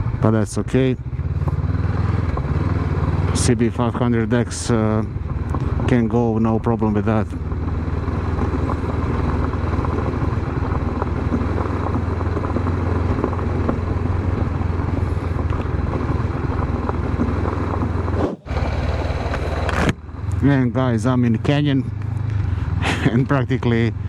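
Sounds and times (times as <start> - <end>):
motorcycle engine running: 0.0 - 6.1, 6.8 - 20.7.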